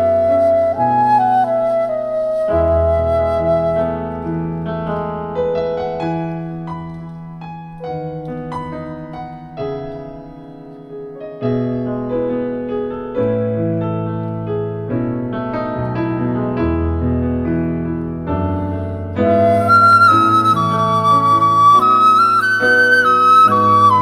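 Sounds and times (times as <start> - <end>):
piano playing slow worship song: 0.0 - 24.0.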